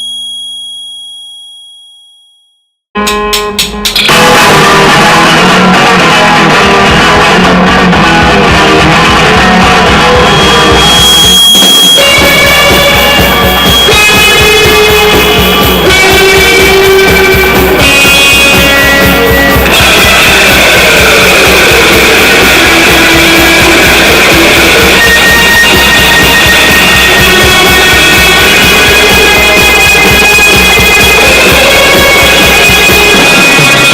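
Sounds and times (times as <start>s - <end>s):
distorted electric guitars: 3.0s - 33.9s
drum kit: 3.0s - 33.9s
sustained high guitar notes: 3.0s - 33.9s.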